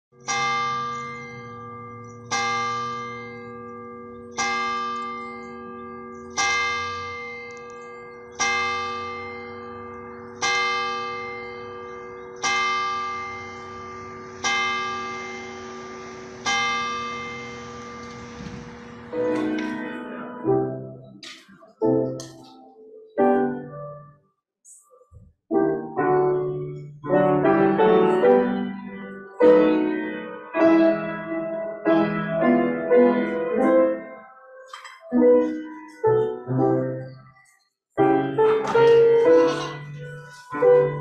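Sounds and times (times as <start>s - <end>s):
church bell tolling: 0.2s - 22.2s, 26.2s - 37.4s, 38.1s - 41.0s.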